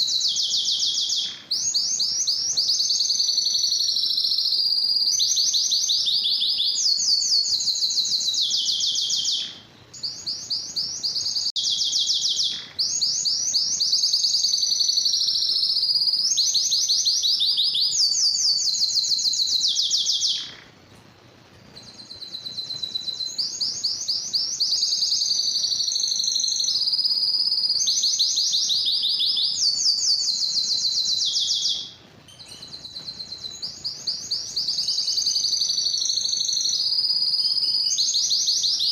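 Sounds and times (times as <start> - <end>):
canary singing rapid trills: 0.0 - 20.8, 21.7 - 38.9.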